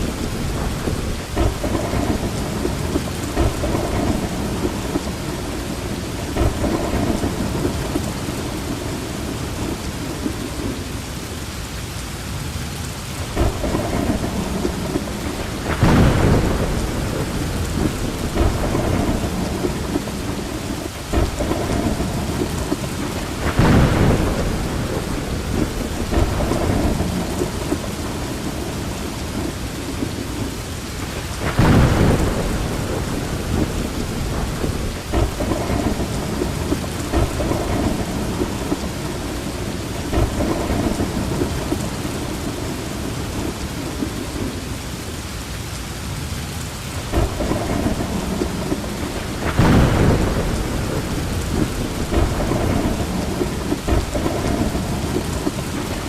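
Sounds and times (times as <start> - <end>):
thunder rumbling: 0.0 - 11.3, 13.0 - 44.9, 46.7 - 56.0
steady rain: 0.0 - 56.0.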